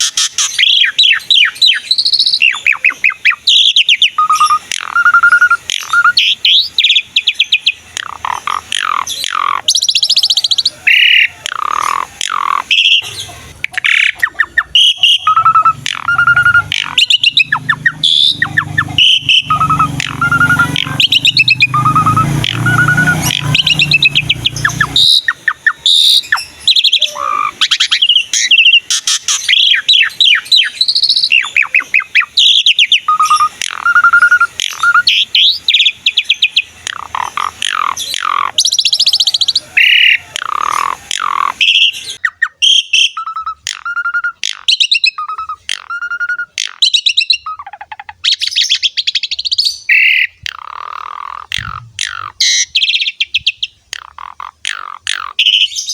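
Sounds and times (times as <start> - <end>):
starling singing: 0.0 - 55.9.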